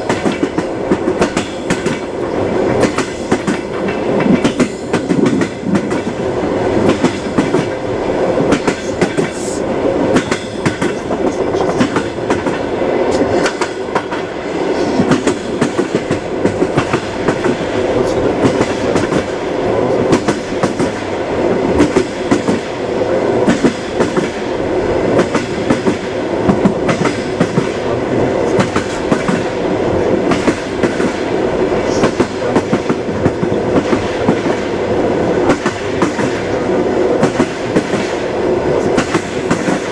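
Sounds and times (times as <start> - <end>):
train wheels clattering: 0.0 - 22.8, 23.4 - 34.8, 35.4 - 39.9.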